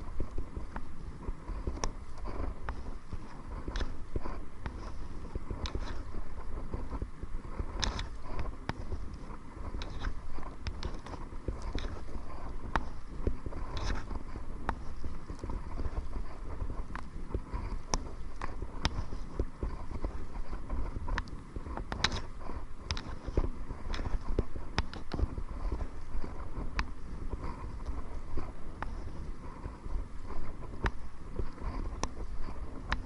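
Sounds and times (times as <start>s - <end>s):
wind rumble on microphone: 0.0s - 33.0s.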